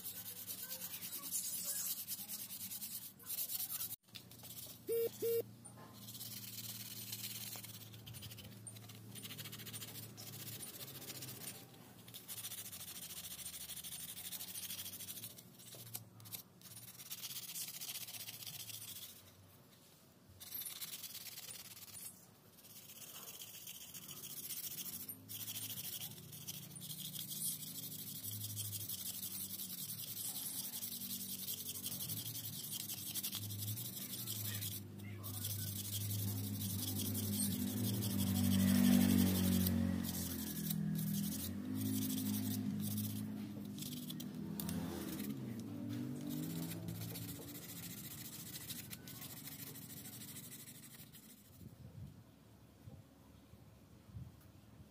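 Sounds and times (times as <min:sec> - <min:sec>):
sandpaper rubbing on wood: 0:00.0 - 0:04.8, 0:06.0 - 0:19.3, 0:20.4 - 0:51.6.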